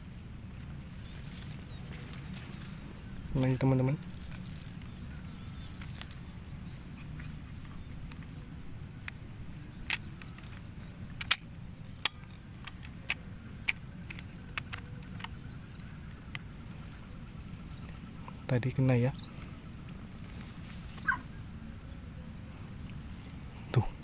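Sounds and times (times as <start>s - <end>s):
insect chirring: 0.0s - 24.0s.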